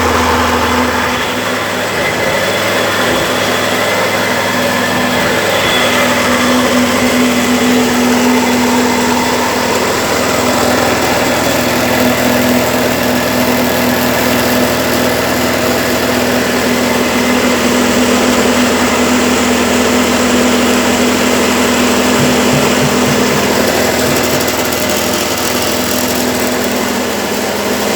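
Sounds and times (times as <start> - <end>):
petrol engine running: 0.0 - 27.9.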